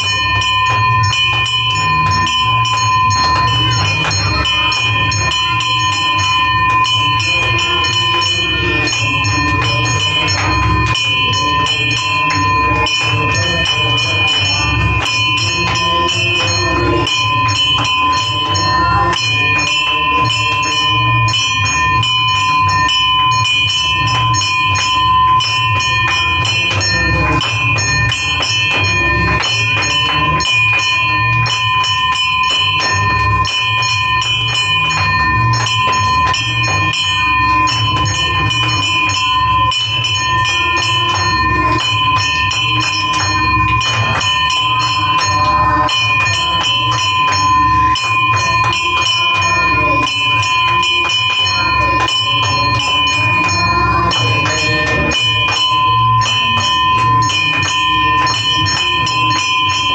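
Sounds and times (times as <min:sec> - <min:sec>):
hand bell ringing: 0:00.0 - 0:59.9
rhythmic low beat: 0:00.0 - 0:59.9.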